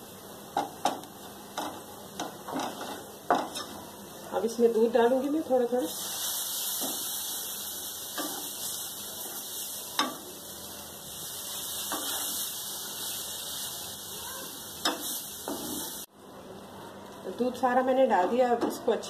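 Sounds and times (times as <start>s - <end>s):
mixture sizzling in metal pan: 0.0s - 16.1s.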